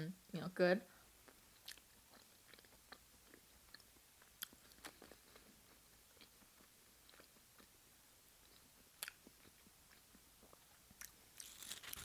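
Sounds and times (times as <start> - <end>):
faint chewing: 1.2 - 7.8, 8.4 - 12.0.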